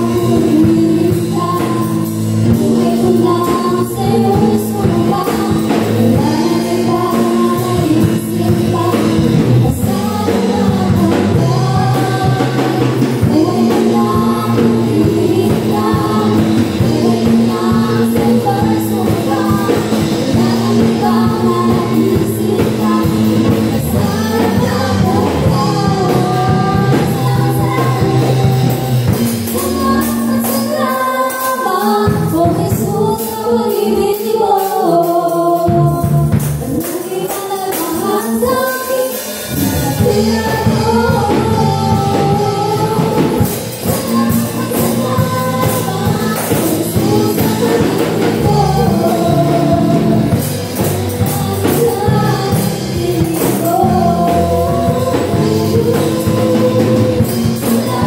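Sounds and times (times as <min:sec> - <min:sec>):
backing singers: 0:00.0 - 0:58.0
band with drums and keyboard: 0:00.0 - 0:58.0
woman singing: 0:00.0 - 0:58.0.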